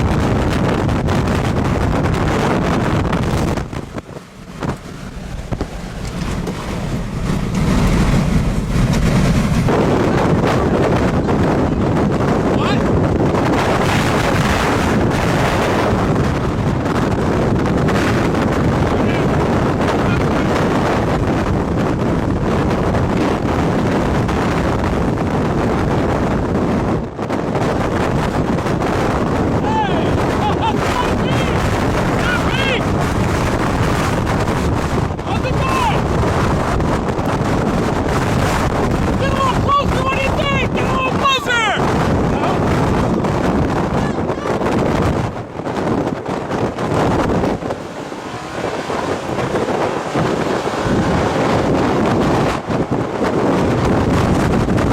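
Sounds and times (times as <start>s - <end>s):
strong wind buffeting microphone: 0.0s - 54.9s.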